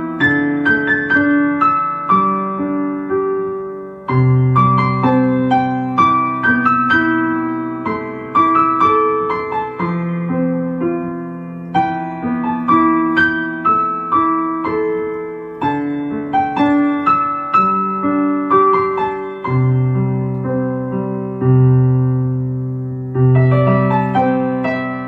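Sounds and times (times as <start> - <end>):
electric piano chords: 0.0 - 25.0.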